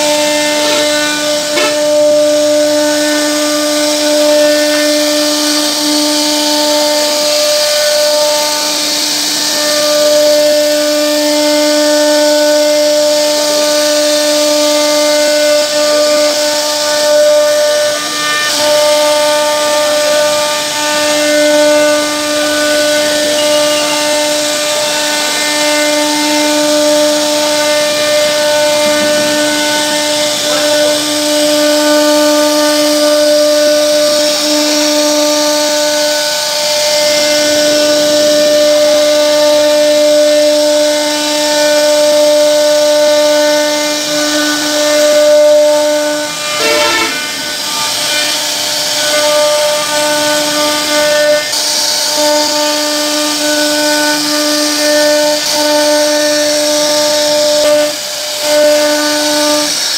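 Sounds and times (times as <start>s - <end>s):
router spindle whining: 0.0s - 59.9s.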